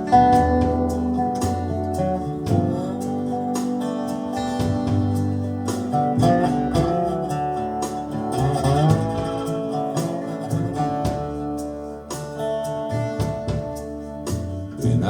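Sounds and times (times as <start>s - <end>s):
bass line: 0.0s - 15.0s
lead guitar with bent notes: 0.0s - 15.0s
steady drum beat: 0.0s - 15.0s.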